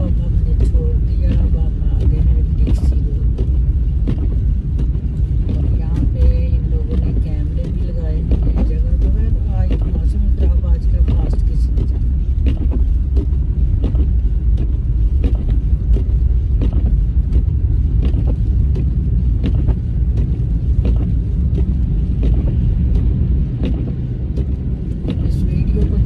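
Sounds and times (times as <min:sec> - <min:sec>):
car engine and tyres rumbling: 0:00.0 - 0:26.0
small irregular ticks and knocks: 0:00.0 - 0:26.0.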